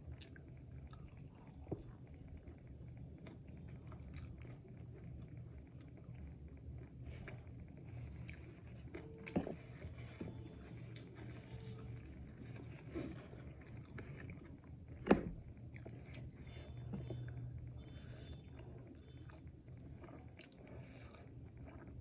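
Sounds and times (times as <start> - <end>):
chewing food: 0.0 - 22.0
low steady hum: 0.0 - 22.0.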